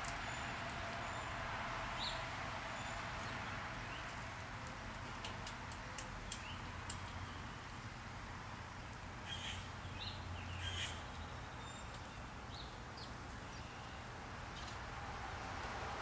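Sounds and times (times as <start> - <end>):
low outdoor hum: 0.0 - 16.0.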